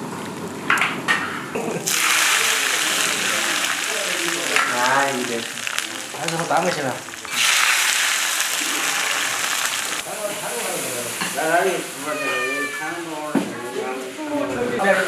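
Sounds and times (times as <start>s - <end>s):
hot oil sizzling: 0.8s - 13.3s
voices talking: 1.6s - 7.3s, 8.5s - 15.0s.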